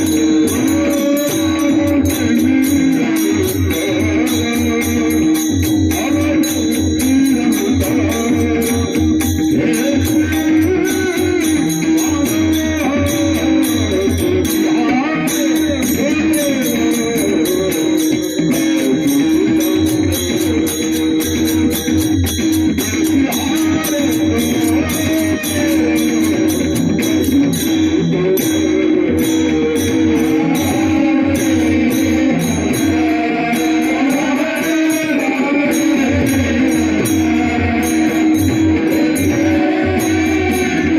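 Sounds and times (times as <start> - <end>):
hand drum beating fast rhythm: 0.0 - 40.9
man singing ornamented melody: 0.0 - 40.9
small hand cymbals jingling: 0.0 - 40.9.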